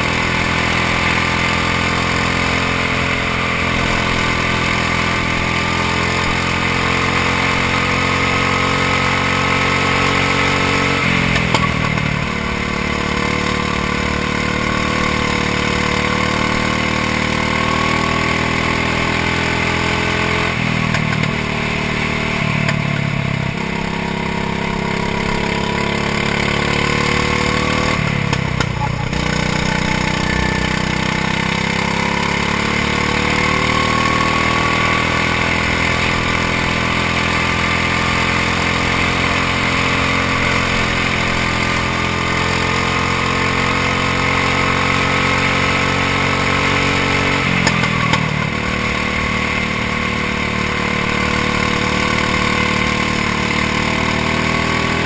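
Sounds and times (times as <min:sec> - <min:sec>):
go-kart engine running hard: 0:00.0 - 0:55.0.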